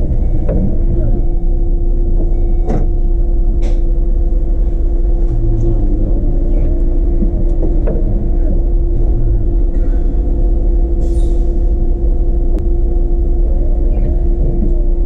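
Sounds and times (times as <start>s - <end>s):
bus engine and road rumble: 0.0s - 15.0s
steady whine: 0.0s - 15.0s.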